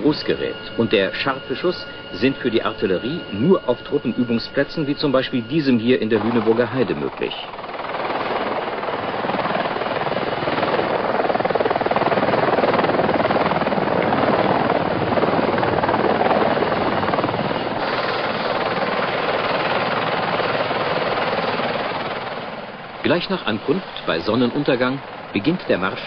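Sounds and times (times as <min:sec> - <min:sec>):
helicopter rotors and turbines: 0:00.0 - 0:26.0.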